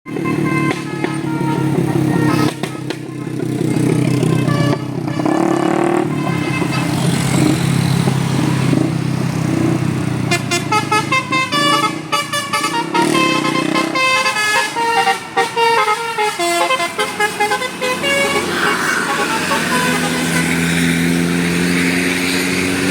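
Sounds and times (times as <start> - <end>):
musical bus horn melody: 0.1 - 7.6, 10.2 - 21.1.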